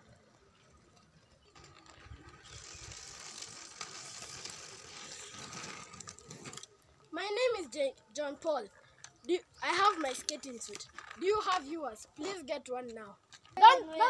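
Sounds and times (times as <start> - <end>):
skate wheels rolling on asphalt: 0.0 - 14.0.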